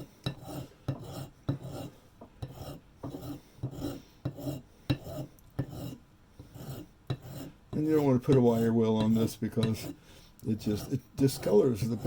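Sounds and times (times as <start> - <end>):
hand file rasping: 0.3 - 10.0, 10.6 - 12.0.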